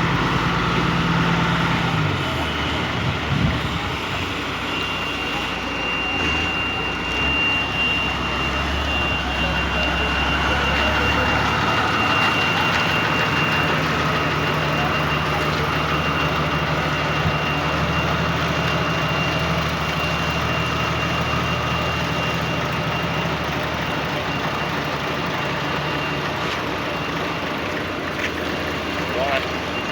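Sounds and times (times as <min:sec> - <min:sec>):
heavy vehicle engine running: 0:00.0 - 0:29.9.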